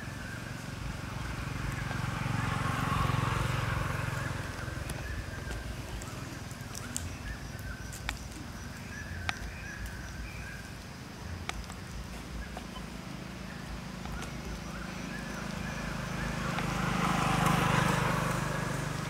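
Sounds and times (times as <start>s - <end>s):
motorbike passing: 0.0s - 19.0s.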